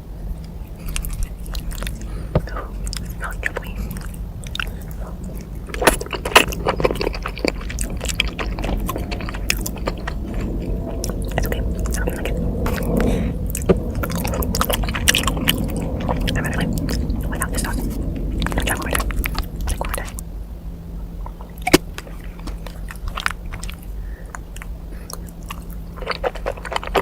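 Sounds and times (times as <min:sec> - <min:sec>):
chewing and biting food: 0:00.3 - 0:20.3, 0:21.2 - 0:27.0
mouth clicks and smacks: 0:00.4 - 0:20.2, 0:21.2 - 0:27.0.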